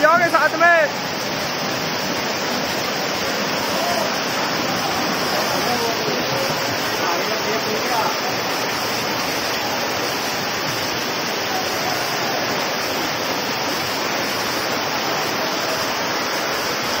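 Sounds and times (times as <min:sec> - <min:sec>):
floodwater rushing: 0:00.0 - 0:17.0
heavy rain: 0:00.0 - 0:17.0.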